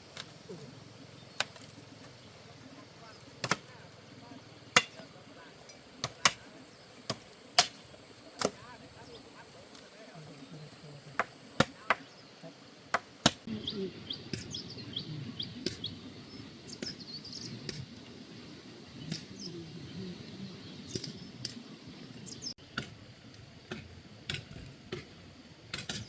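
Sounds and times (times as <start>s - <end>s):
small birds chirping: 0.0s - 22.6s.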